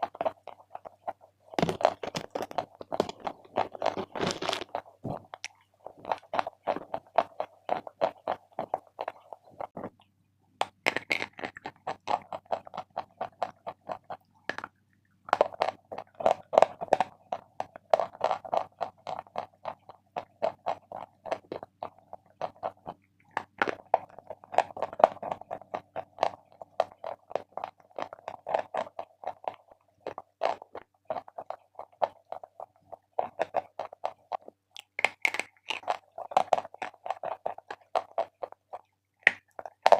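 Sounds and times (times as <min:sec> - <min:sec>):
person chewing crunchy chalk: 0:00.0 - 0:39.9.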